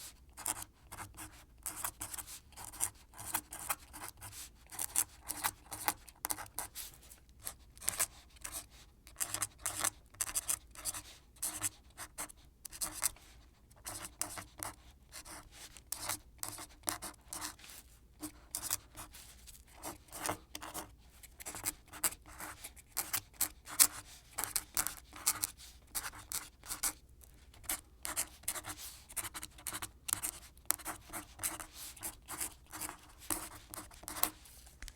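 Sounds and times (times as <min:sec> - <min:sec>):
quill pen scratching paper: 0:00.4 - 0:13.2, 0:13.8 - 0:34.5.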